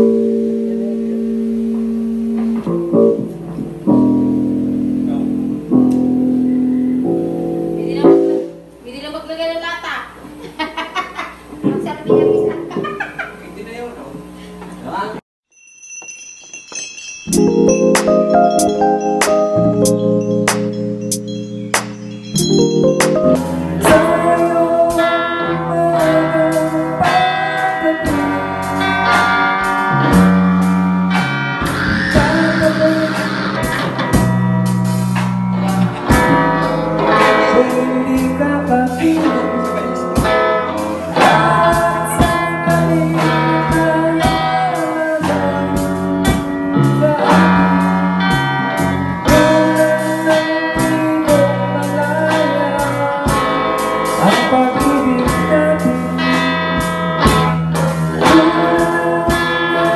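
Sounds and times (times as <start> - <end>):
bass guitar: 0.0 - 9.0, 17.3 - 59.9
electric guitar lead: 0.0 - 9.0, 11.3 - 14.5, 17.3 - 59.9
drum kit steady beat: 0.0 - 14.3, 17.3 - 59.9.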